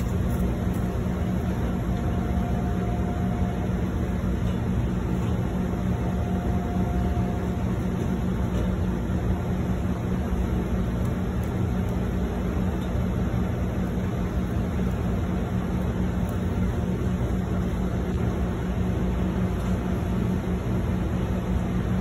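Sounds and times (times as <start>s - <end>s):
kitchen equipment humming: 0.0s - 22.0s.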